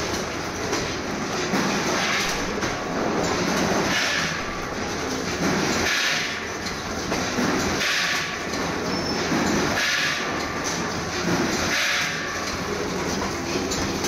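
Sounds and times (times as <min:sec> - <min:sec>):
bagging machine clatter: 0:00.0 - 0:14.0.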